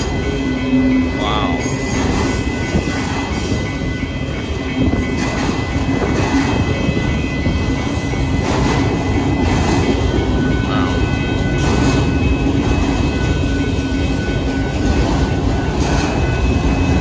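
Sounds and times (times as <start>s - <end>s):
crossing warning bell: 0.0s - 17.0s
train wheels rumbling on rails: 0.0s - 17.0s.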